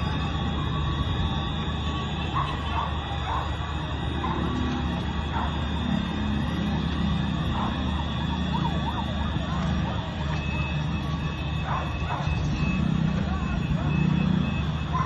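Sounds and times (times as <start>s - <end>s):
emergency sirens wailing: 0.0s - 15.0s
street noise din: 0.0s - 15.0s.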